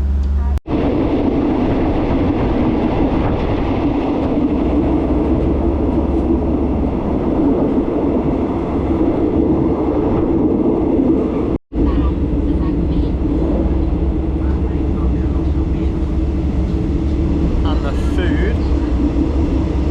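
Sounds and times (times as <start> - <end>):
train running rumble: 0.0 - 19.9.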